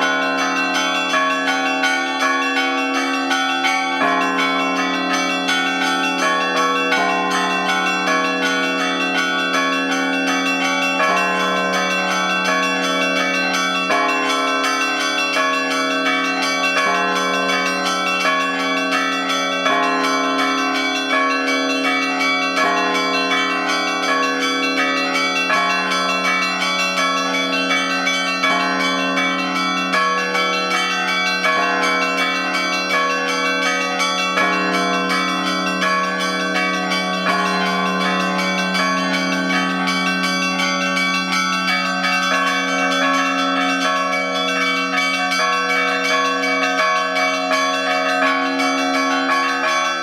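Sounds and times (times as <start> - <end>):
deep church bell: 0.0 - 50.0
smaller bells ringing rapidly: 0.0 - 50.0.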